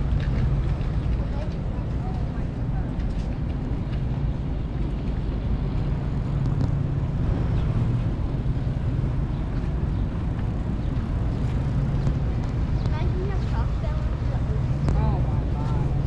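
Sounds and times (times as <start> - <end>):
low engine rumble: 0.0 - 16.0
outdoor background noise: 0.0 - 16.0.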